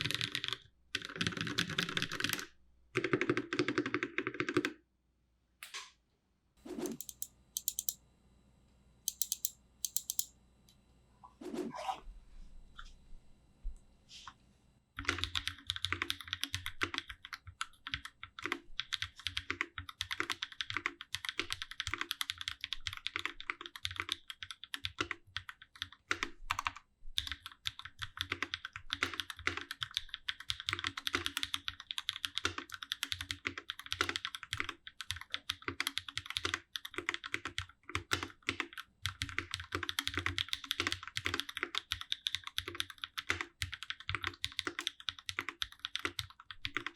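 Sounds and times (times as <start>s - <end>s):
fast typing on mechanical keyboard: 0.0s - 4.8s, 6.8s - 8.0s, 9.1s - 10.3s, 15.0s - 46.9s.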